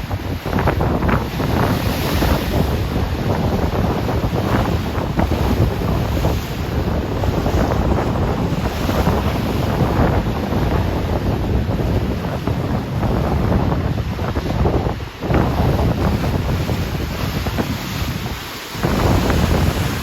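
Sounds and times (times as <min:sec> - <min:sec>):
rough ocean waves churning: 0:00.0 - 0:20.0
wind buffeting the microphone: 0:00.0 - 0:20.0.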